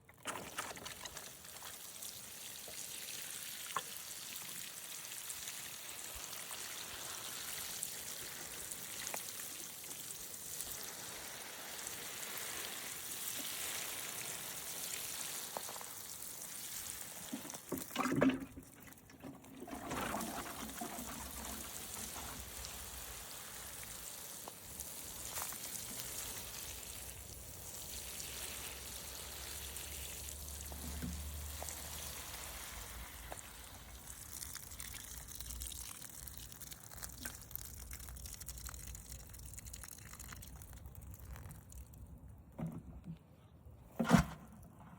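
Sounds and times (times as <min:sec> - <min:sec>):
watering can pouring on plants: 0:00.0 - 0:42.7.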